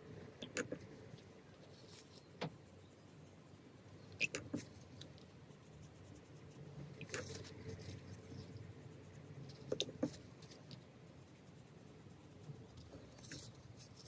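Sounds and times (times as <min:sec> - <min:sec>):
paintbrush scratching on paper: 0:00.1 - 0:02.4, 0:03.1 - 0:14.0.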